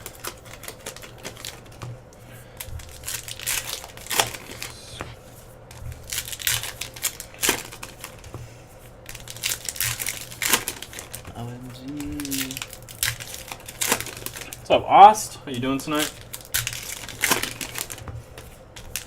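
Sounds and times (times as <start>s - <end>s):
card pack wrappers crinkling: 0.0s - 8.3s, 8.9s - 14.8s, 15.5s - 19.0s.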